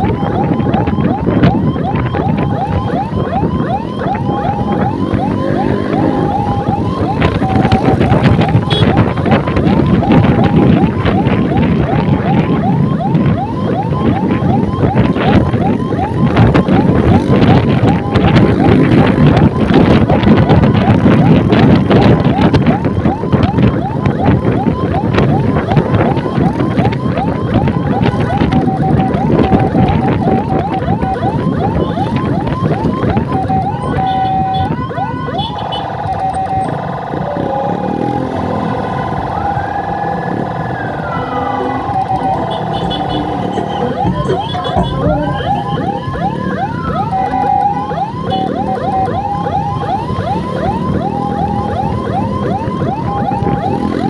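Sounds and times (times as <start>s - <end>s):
electronic siren yelping: 0.0s - 54.0s
wind and road rush: 0.0s - 54.0s.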